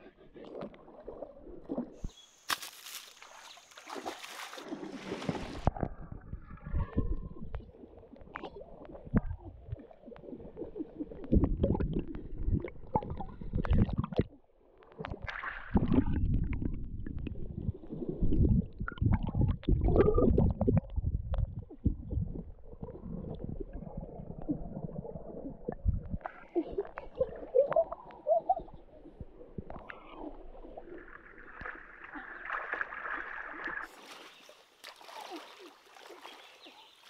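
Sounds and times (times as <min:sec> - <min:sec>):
muffled water sloshing and gurgling: 0:00.0 - 0:02.2, 0:03.2 - 0:37.0.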